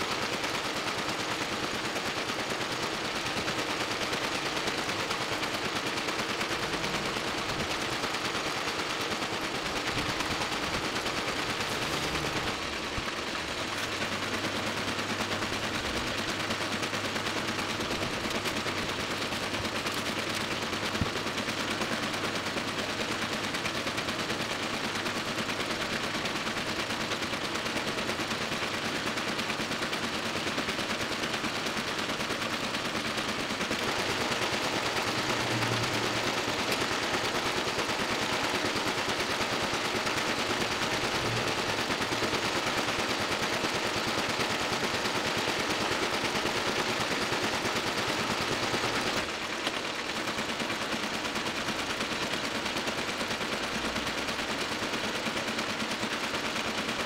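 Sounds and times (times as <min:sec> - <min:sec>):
printing press clattering: 0:00.0 - 0:57.0.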